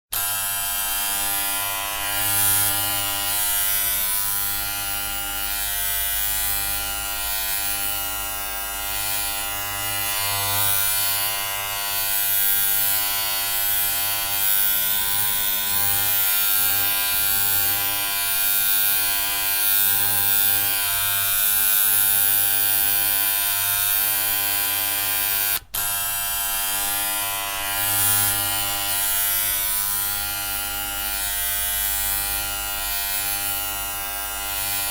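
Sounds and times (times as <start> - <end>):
electric hair clippers buzzing: 0.1 - 34.9.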